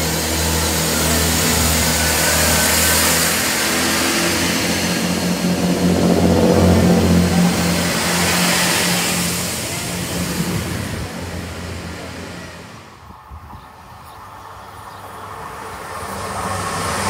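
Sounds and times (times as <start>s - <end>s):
train diesel engines droning: 0.0s - 17.0s.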